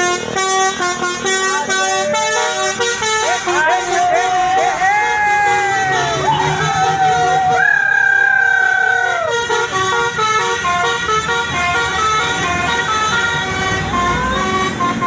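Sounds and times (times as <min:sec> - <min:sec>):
multi-tone bus horn: 0:00.0 - 0:15.0.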